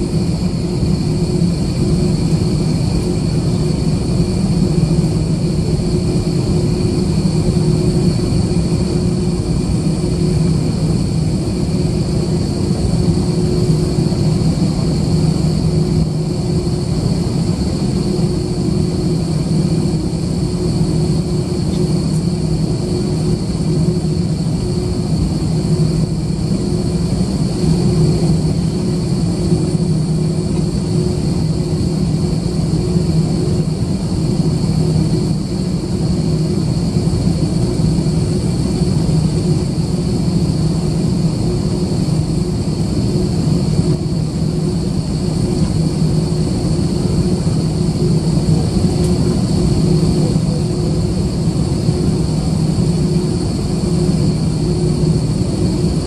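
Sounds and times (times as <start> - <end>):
jet engines humming in cabin: 0.0 - 56.0.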